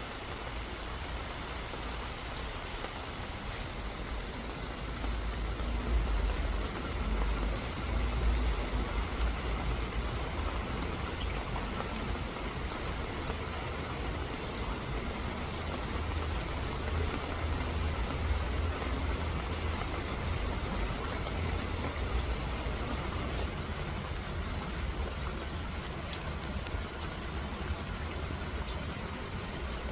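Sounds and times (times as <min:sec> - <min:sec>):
rain hissing: 0:00.0 - 0:29.9.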